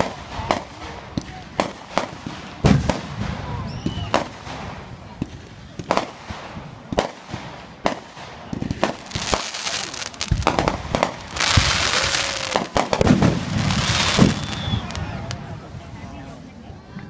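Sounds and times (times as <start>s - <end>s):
fireworks bangs: 0.0s - 15.8s
fireworks crackling hiss: 0.0s - 16.4s.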